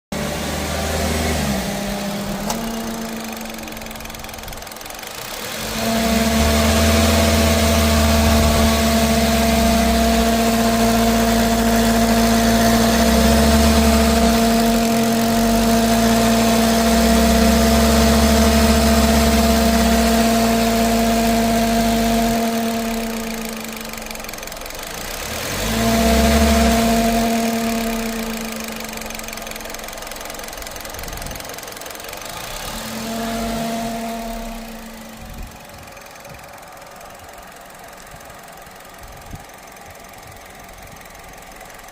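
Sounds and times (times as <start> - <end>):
low throbbing drone: 0.2 - 31.4, 32.2 - 38.4
car humming noise: 0.2 - 41.9.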